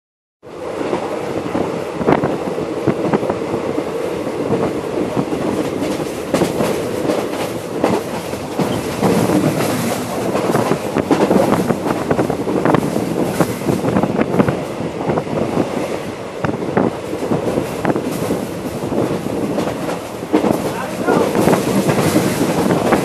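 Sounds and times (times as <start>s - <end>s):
train wheels rumbling on rails: 0.5s - 23.0s
irregular track clacks: 0.6s - 23.0s.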